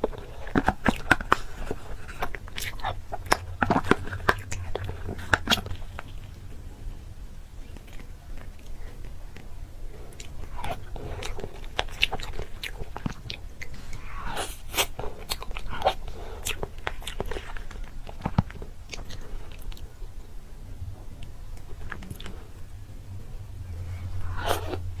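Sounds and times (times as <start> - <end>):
crunchy chewing of food: 0.0 - 6.6, 7.6 - 20.2, 21.2 - 22.7, 23.8 - 25.0.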